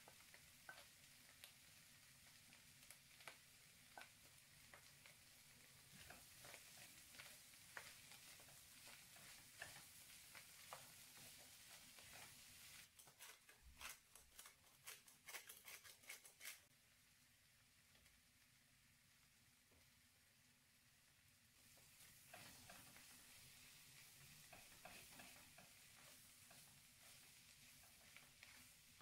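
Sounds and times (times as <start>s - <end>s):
wooden spoon stirring and tapping: 0.0s - 16.5s, 21.6s - 29.0s
food sizzling in a pan: 0.0s - 29.0s.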